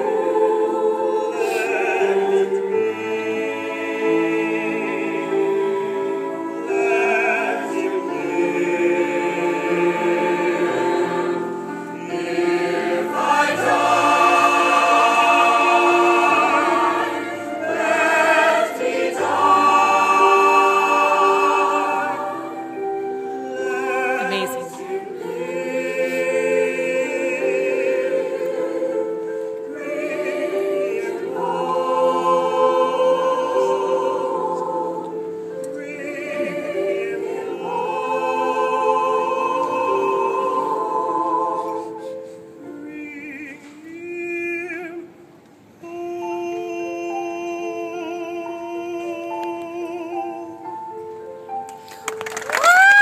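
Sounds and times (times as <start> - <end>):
choir singing: 0.0 - 51.1.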